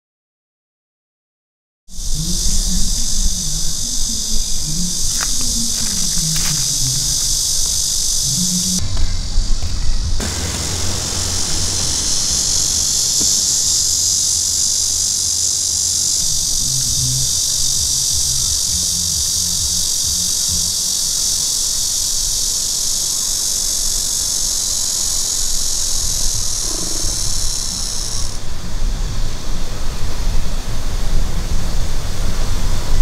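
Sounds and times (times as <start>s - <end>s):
cicadas singing: 1.9s - 33.0s.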